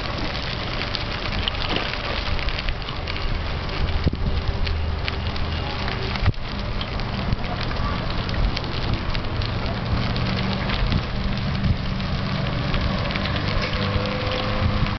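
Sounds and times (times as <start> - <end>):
bicycle tyres crunching on gravel: 0.0 - 14.9.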